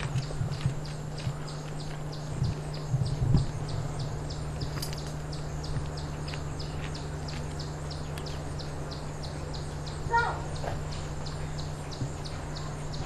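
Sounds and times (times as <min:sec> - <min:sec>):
low thumps: 0:00.0 - 0:07.6, 0:09.8 - 0:13.0
constant low hum: 0:00.0 - 0:13.0.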